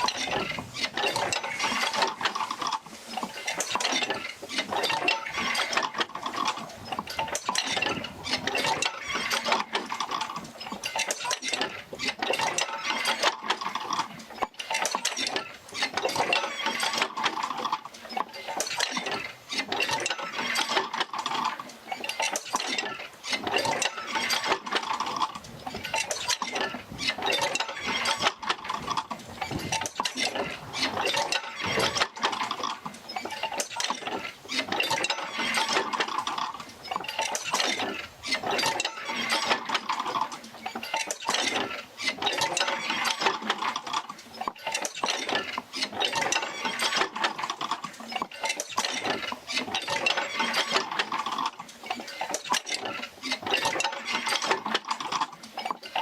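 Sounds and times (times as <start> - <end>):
oil field wheel clanking and creaking: 0.0 - 56.0.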